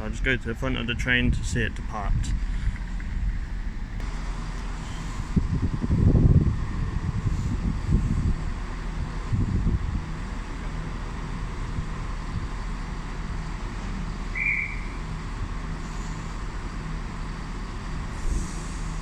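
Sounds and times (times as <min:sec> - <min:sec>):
diesel train idling: 0:00.0 - 0:19.0.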